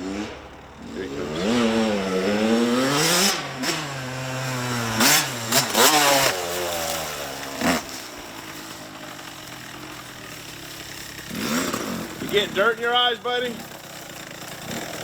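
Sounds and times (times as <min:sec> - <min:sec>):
dirt bike engine revving: 0:00.0 - 0:15.0
engine rasping bursts: 0:00.0 - 0:15.0.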